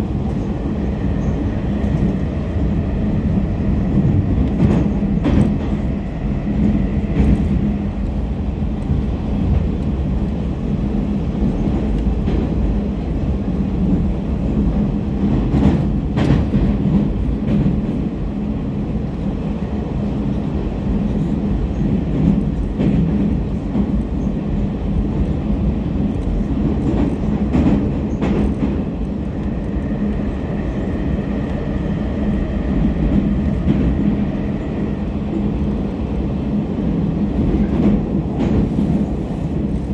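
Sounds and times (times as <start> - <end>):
metro train rumble in tunnel: 0.0 - 39.9.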